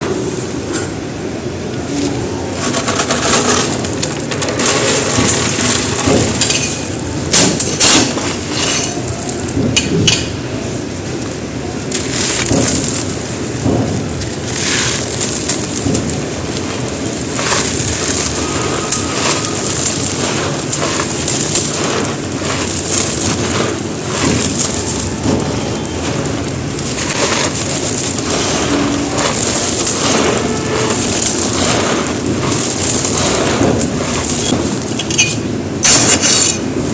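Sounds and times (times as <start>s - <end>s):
concrete crunching and crackling: 1.8s - 36.9s.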